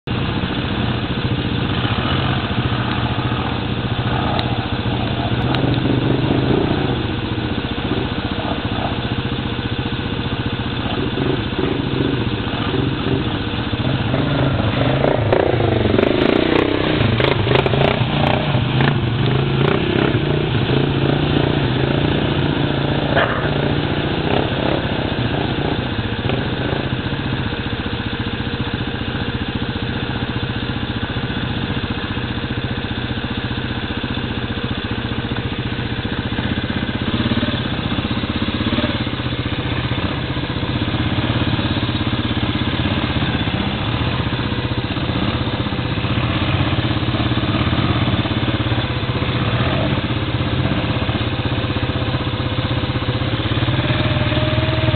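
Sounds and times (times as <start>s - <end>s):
quad engines revving: 0.1s - 54.9s.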